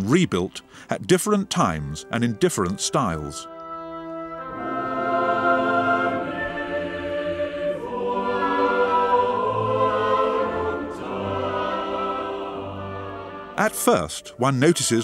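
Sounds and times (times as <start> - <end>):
choir singing held chords: 2.1 - 15.0.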